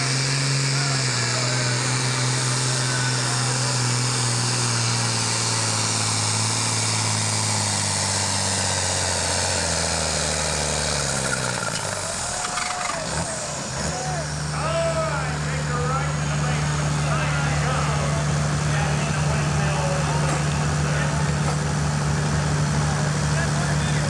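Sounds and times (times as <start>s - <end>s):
tractor diesel engine at full throttle: 0.0s - 24.0s.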